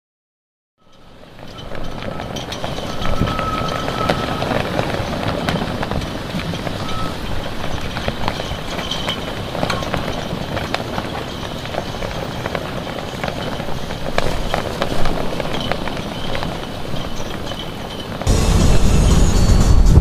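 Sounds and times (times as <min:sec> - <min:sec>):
gusty storm wind: 0:00.9 - 0:20.0.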